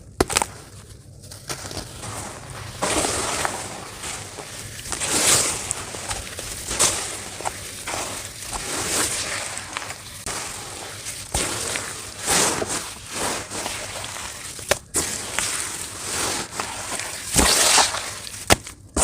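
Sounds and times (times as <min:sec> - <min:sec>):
dry dirt clumps crunching: 0:00.0 - 0:19.0.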